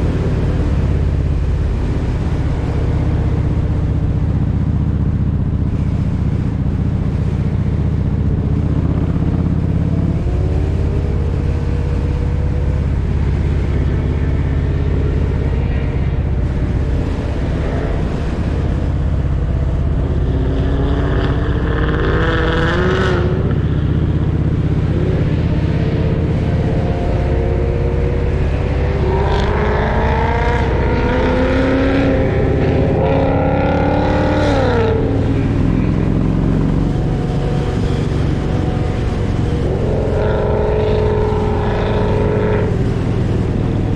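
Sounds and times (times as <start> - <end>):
high-pitched engine whine: 0.0 - 43.9
motorcycle engine running: 0.0 - 43.9.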